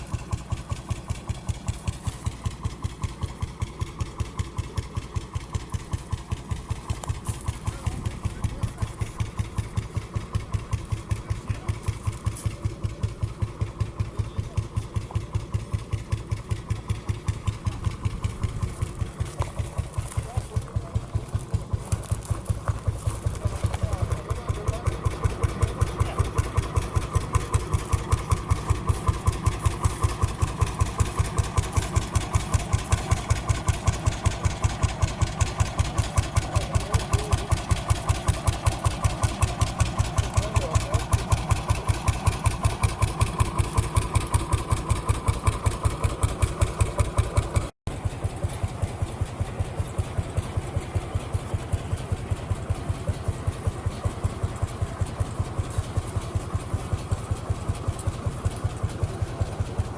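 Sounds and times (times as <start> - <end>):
engine running slow beat: 0.0 - 59.9.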